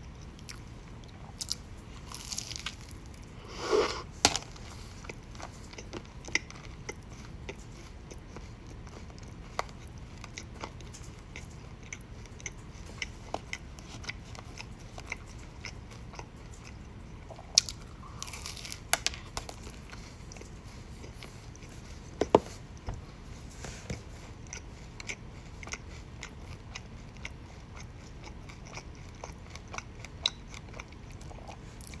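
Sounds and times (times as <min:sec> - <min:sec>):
chewing crunchy food: 0:00.0 - 0:32.0.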